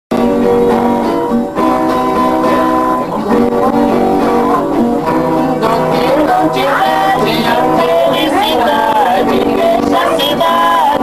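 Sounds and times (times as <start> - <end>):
acoustic guitar strummed: 0.1 - 11.0
viola caipira plucked: 0.1 - 11.0.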